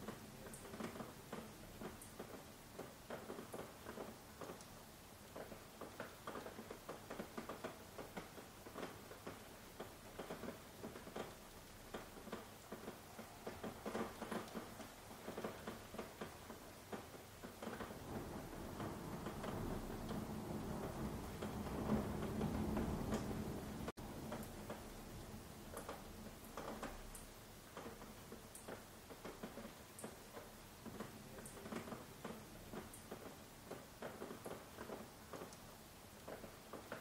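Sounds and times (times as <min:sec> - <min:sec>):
light taps of raindrops: 0:00.0 - 0:37.0
rain hissing: 0:00.0 - 0:37.0.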